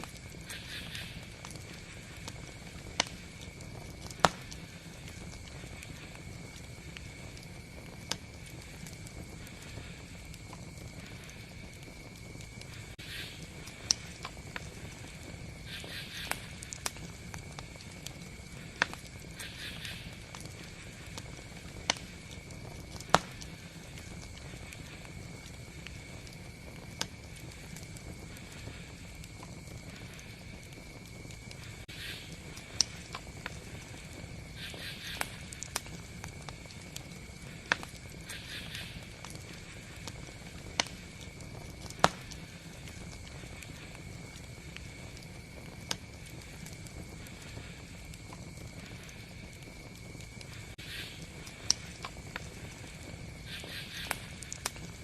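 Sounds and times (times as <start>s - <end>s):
campfire crackling: 0.0s - 55.0s
fire hissing: 0.0s - 55.0s
fire popping: 0.0s - 55.0s.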